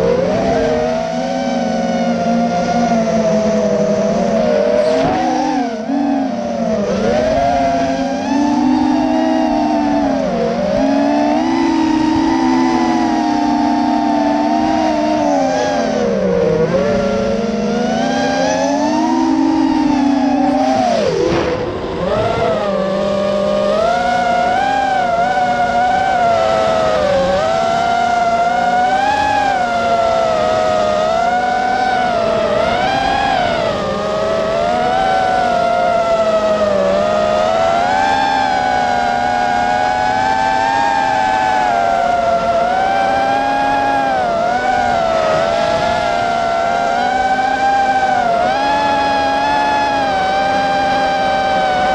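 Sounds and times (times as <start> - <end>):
quadcopter motors whining: 0.0 - 51.9.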